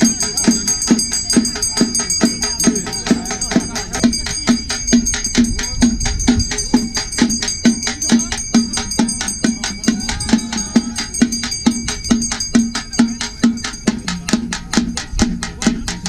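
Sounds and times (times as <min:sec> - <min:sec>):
frame drums beaten with sticks: 0:00.0 - 0:16.0
steady high ringing: 0:00.0 - 0:16.0.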